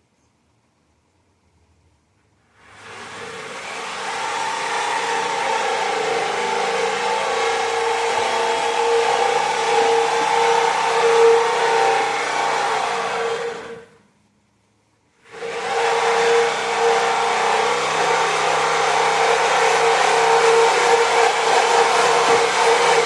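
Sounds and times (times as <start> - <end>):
small motor whining: 2.6 - 14.0, 15.3 - 23.0.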